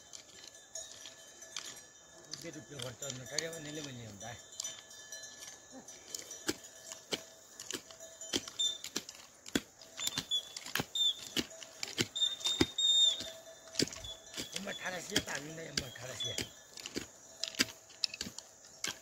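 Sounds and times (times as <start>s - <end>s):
bell jingling: 0.0s - 19.0s.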